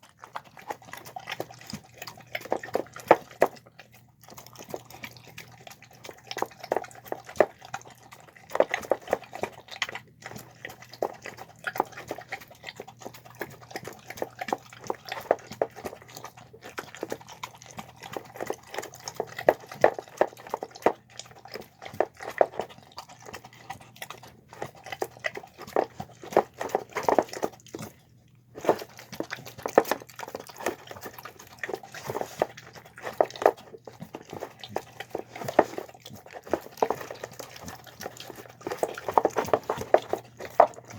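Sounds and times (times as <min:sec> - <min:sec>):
dog chewing and lapping food: 0:00.0 - 0:40.9.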